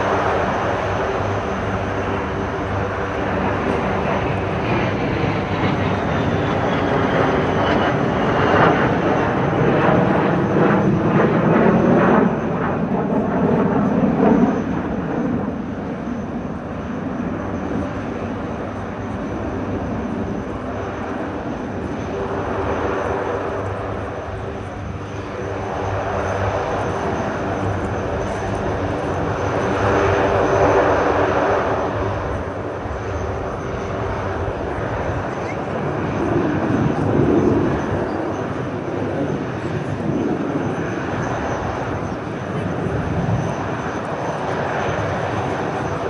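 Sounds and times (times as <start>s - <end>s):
aeroplane flying past: 0.0s - 46.0s.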